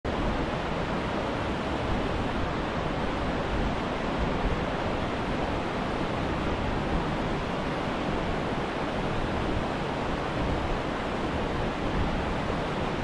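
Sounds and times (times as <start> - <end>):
river rushing over rocks: 0.1 - 13.0.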